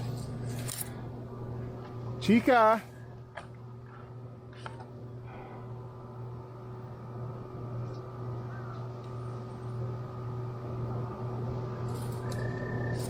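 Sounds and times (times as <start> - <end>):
low machine hum with tones: 0.0 - 13.0.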